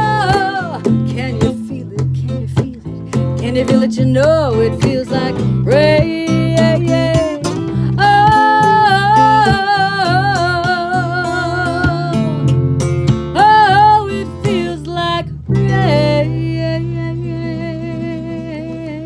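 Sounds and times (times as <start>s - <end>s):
person singing with vibrato: 0.0s - 12.4s, 13.4s - 19.0s
acoustic bass: 0.0s - 19.0s
acoustic guitar: 0.0s - 19.0s.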